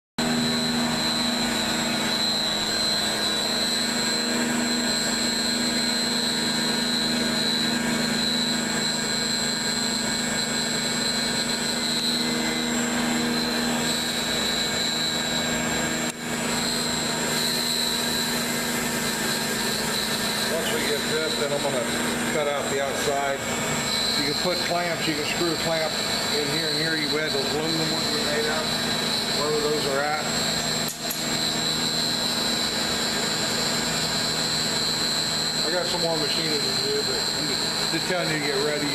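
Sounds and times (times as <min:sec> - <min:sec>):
router cutting noise: 0:00.2 - 0:38.9
spindle high-pitched whine: 0:00.2 - 0:38.9.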